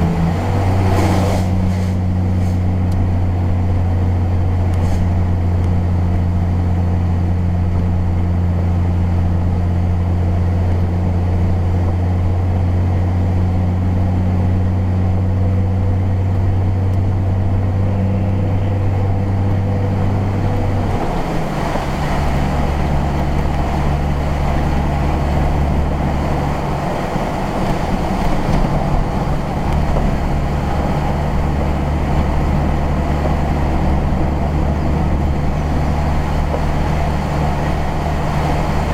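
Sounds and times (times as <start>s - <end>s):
car engine hum: 0.0s - 38.9s.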